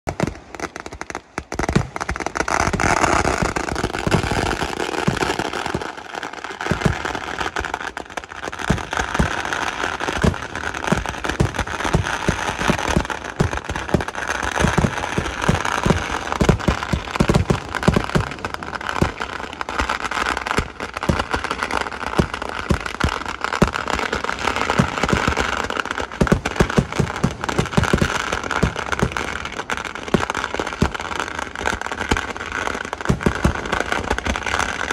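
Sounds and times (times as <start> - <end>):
fireworks crackling: 0.0 - 34.9
fireworks explosions: 0.0 - 34.9.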